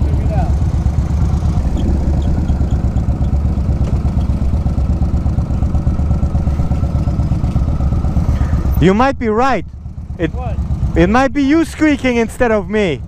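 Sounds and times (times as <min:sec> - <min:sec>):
motorcycle engine pulsing: 0:00.0 - 0:13.0.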